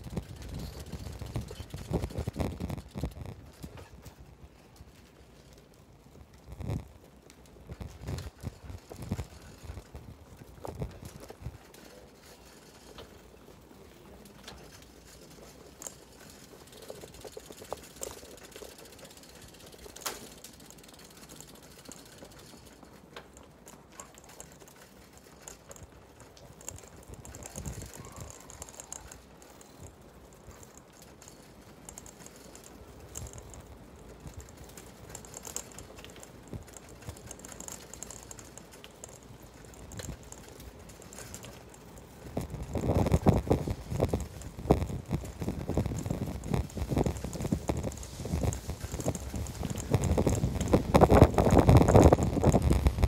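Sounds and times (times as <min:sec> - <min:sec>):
bicycle freewheel ticking: 0:00.0 - 0:53.0
quiet street ambience: 0:00.0 - 0:53.0.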